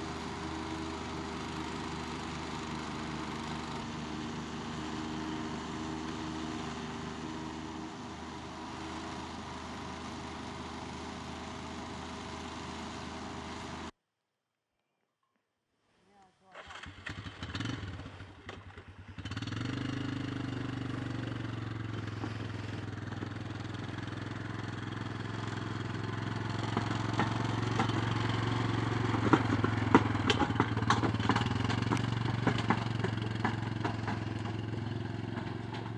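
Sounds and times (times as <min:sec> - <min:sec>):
small engines running: 0:00.0 - 0:13.9, 0:16.6 - 0:35.9.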